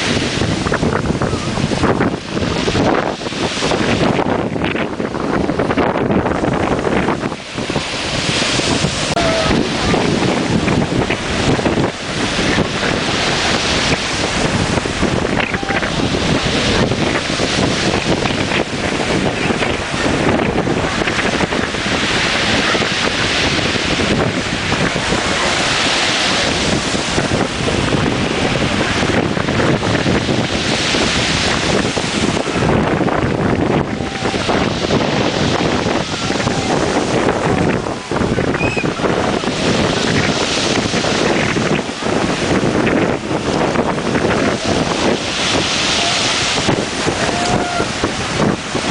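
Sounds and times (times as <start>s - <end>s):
sea surf: 0.0s - 48.9s
strong wind on microphone: 0.0s - 48.9s.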